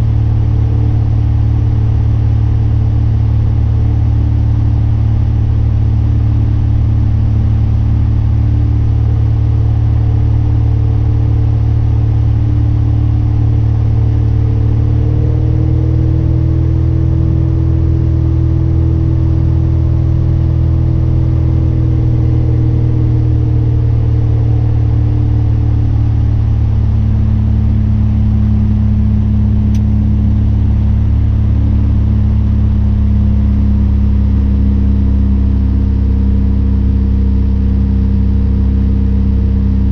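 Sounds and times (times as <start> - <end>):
light aircraft engine drone in cabin: 0.0 - 39.9.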